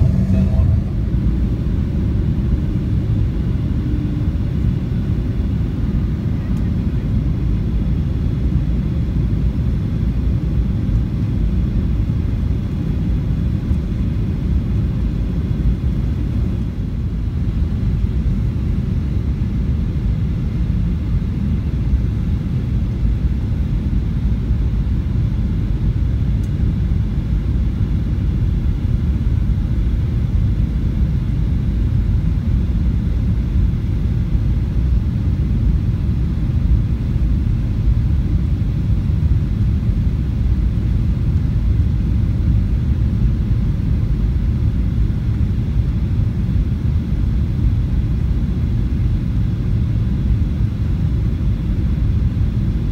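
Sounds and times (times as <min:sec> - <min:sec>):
airliner cabin low rumble: 0:00.0 - 0:52.9.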